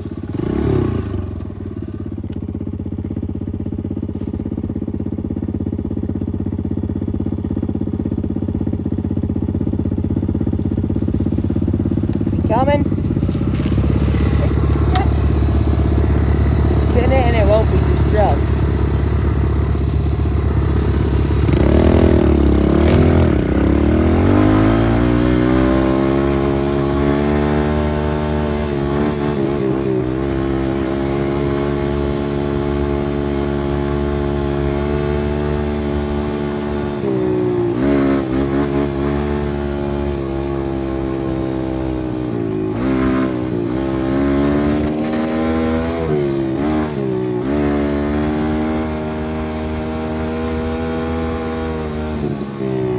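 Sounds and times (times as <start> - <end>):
pit bike engine revving: 0.0 - 52.9.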